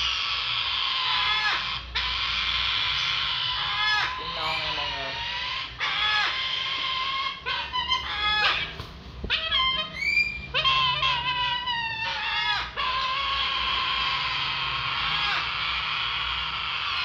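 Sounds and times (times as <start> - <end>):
cockatoo rasping calls: 0.0 - 17.0.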